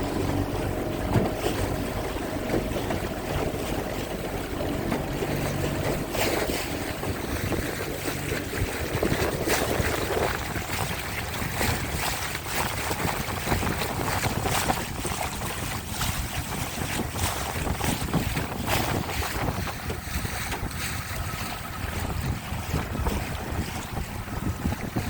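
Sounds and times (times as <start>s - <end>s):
water lapping around boat: 0.0s - 25.0s
wind buffeting microphone: 0.0s - 25.0s.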